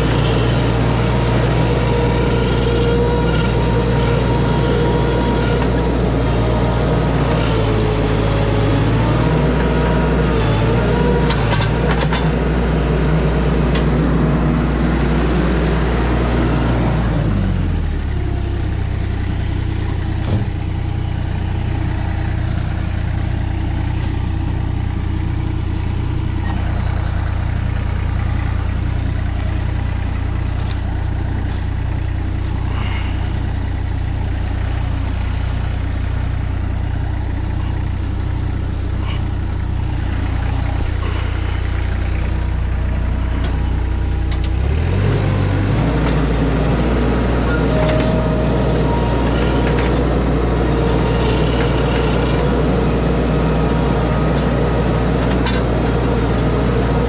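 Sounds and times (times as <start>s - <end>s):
engine revving then idling: 0.0s - 57.0s.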